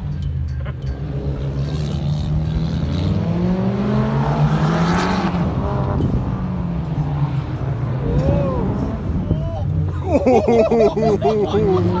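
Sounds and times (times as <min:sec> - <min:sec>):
car engine accelerating: 0:00.6 - 0:12.0.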